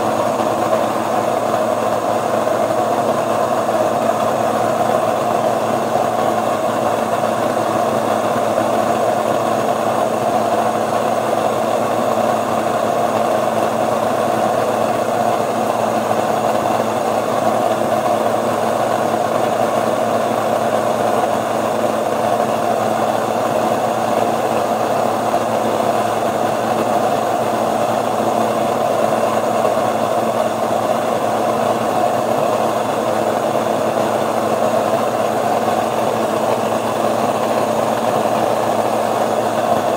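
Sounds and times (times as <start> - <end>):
grain mill motor drone: 0.0 - 39.9
stand mixer kneading dough: 0.0 - 39.9.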